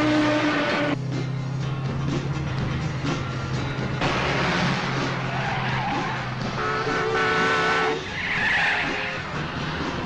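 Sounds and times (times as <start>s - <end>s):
car engine: 0.0s - 10.0s
film soundtrack music: 0.0s - 10.0s.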